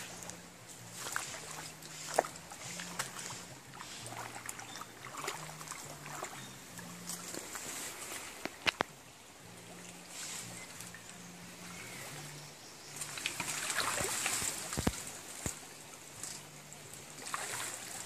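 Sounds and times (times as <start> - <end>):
feet wading through water: 0.0 - 18.0.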